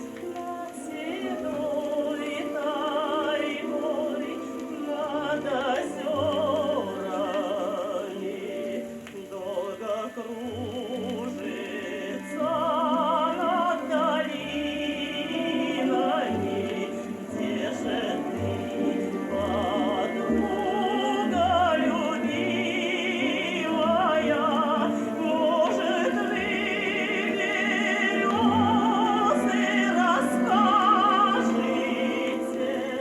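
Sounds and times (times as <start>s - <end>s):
gramophone record music: 0.0s - 33.0s.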